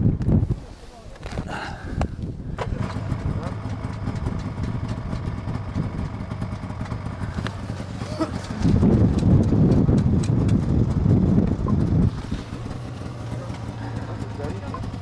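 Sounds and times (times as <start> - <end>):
wind buffeting on microphone: 0.0 - 3.6, 4.2 - 15.0
steady low rumble: 0.0 - 15.0.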